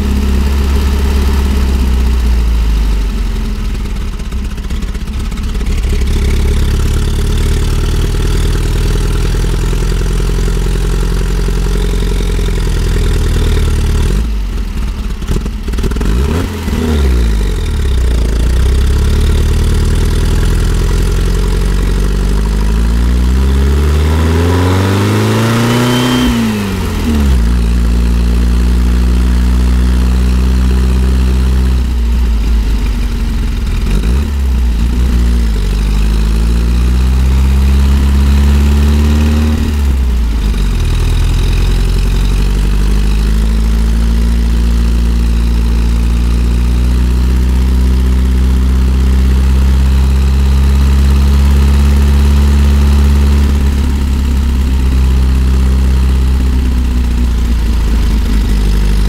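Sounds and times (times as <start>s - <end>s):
van engine pulling uphill: 0.0s - 59.0s.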